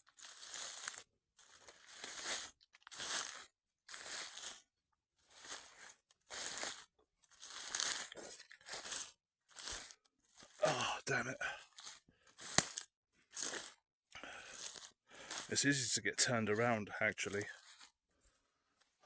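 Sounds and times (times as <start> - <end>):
footsteps through dry undergrowth: 0.0 - 19.0.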